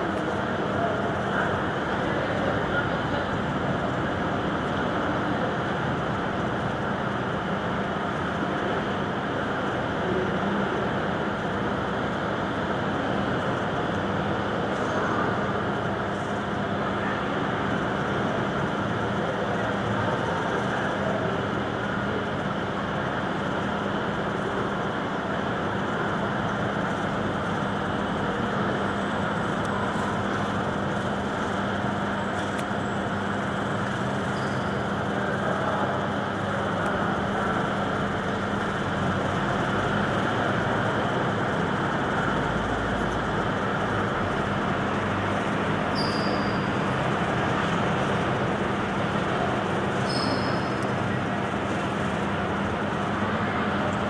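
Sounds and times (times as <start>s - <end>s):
bus engines droning: 0.0s - 54.0s
bus moving off rumble: 0.0s - 54.0s.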